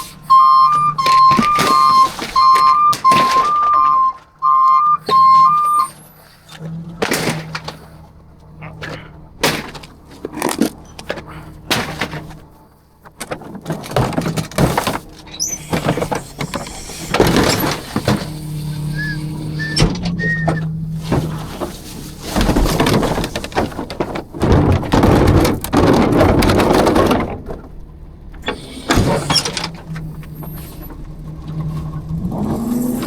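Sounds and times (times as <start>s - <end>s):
garbage truck engine humming: 0.0s - 33.0s
metal bangs and clatter: 0.0s - 33.0s.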